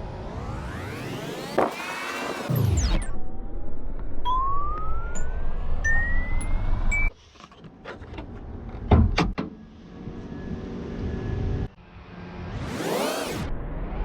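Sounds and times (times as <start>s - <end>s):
loud rumble with rising whistle: 0.0s - 7.1s, 9.8s - 14.0s.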